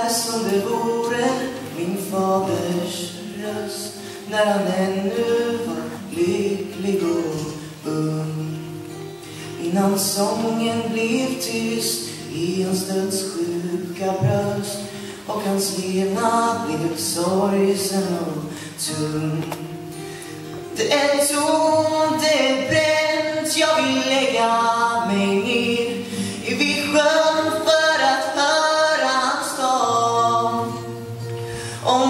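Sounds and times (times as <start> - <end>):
acoustic guitar: 0.0 - 32.0
man singing into a microphone: 0.0 - 32.0.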